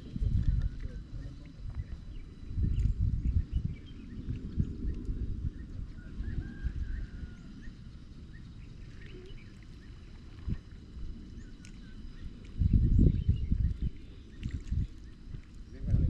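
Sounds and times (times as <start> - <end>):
low outdoor rumble: 0.0 - 16.0
faint bird chirps: 0.1 - 16.0.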